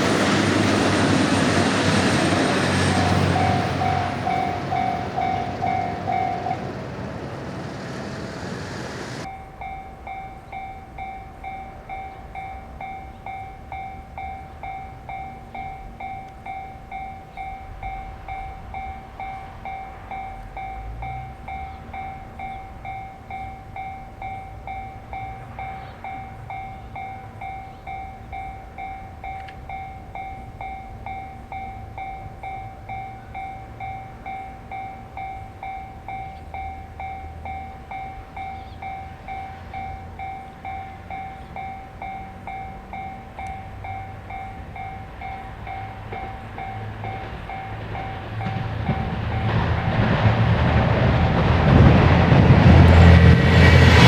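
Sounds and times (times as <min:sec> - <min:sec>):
level crossing bell ringing: 0:00.0 - 0:07.4, 0:09.2 - 0:49.6
train running past: 0:00.0 - 0:54.0.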